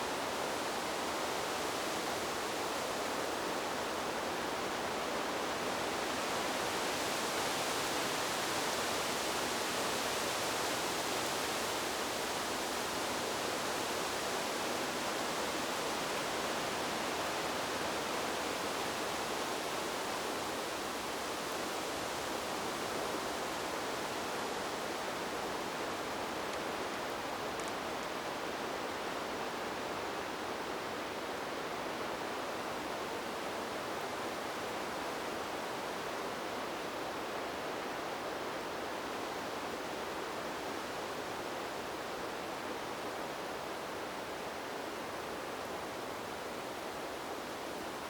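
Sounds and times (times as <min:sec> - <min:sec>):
wind blowing through trees: 0:00.0 - 0:48.0.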